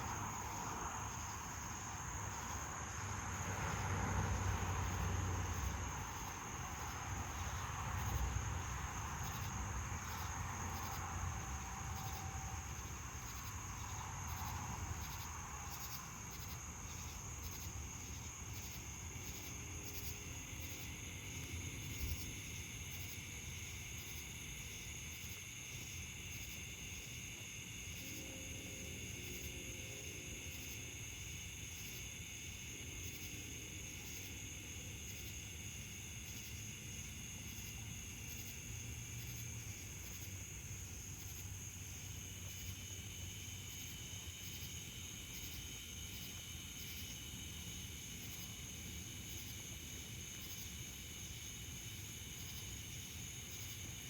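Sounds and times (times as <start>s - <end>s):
cicadas and insects chorus: 0.0s - 54.0s.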